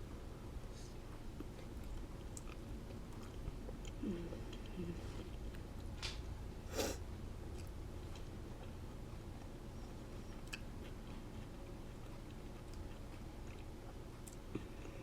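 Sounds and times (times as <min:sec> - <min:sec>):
person chewing soft food: 0:00.6 - 0:06.0, 0:06.7 - 0:15.0.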